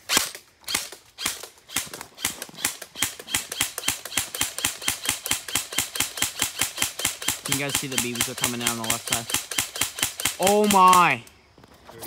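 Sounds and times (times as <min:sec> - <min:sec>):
airsoft gun firing: 0:00.0 - 0:11.2.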